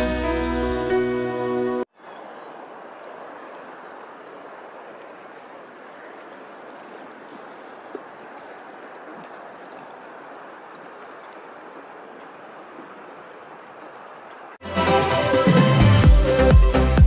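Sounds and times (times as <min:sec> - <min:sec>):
moving water: 0:01.8 - 0:17.0.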